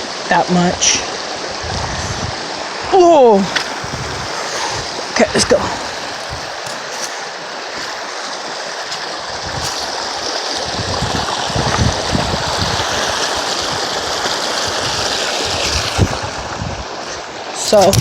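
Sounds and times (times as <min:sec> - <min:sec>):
water rushing over rocks: 0:00.0 - 0:18.0
wind buffeting on microphone: 0:00.9 - 0:07.1, 0:07.7 - 0:18.0.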